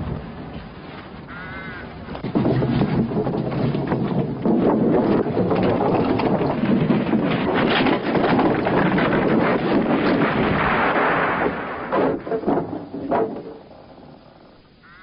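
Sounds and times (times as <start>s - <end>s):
wooden bridge planks clattering: 0.0s - 14.8s.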